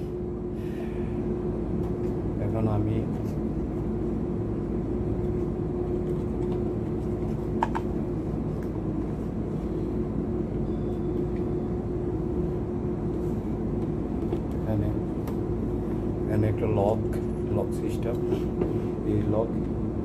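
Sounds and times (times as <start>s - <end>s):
faint steady hum: 0.0s - 20.0s
low background drone: 0.0s - 20.0s.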